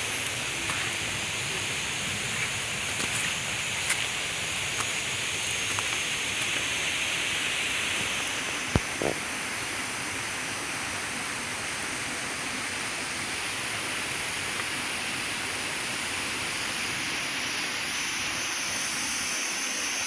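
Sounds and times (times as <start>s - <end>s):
rushing water hiss: 0.0s - 20.0s.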